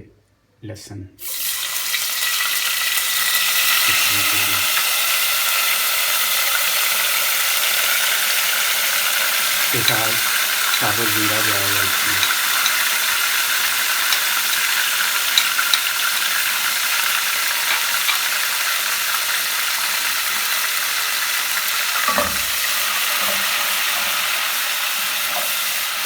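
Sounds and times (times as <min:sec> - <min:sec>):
garlic sizzling in hot oil: 0:01.2 - 0:26.0.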